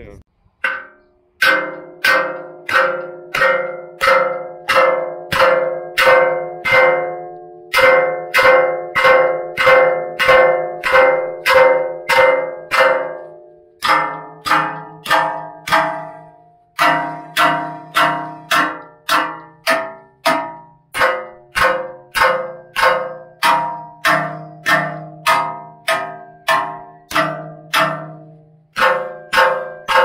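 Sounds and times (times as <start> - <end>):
hammer clanging on steel pipe: 0.6 - 30.0.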